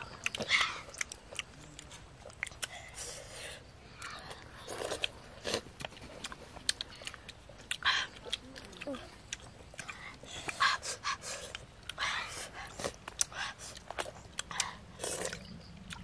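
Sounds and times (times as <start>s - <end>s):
slurping and chewing: 0.0s - 16.0s.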